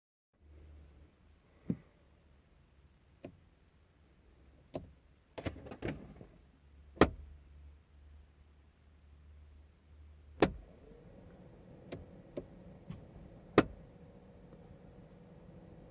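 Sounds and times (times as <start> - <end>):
low steady hum: 0.4 - 15.9.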